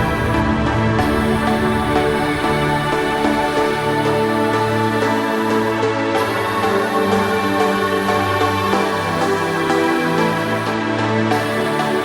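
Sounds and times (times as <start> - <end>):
electronic chords and tones: 0.0 - 12.0.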